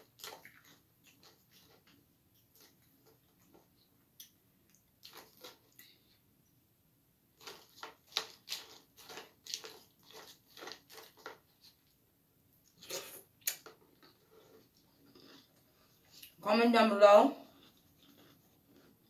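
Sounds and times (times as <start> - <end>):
person chewing crunchy cereal: 0.0 - 6.2, 7.3 - 12.0, 12.6 - 16.4, 17.4 - 19.0.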